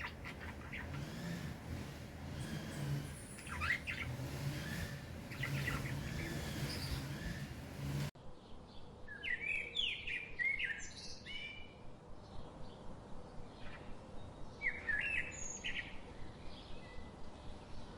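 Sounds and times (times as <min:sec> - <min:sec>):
songbird singing rising notes: 0:00.0 - 0:17.9.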